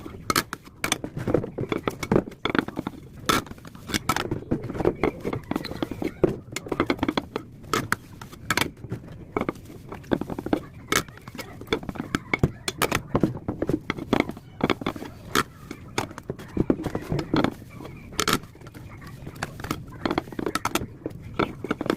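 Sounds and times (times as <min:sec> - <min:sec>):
dishes and cutlery clinking: 0:00.0 - 0:21.9.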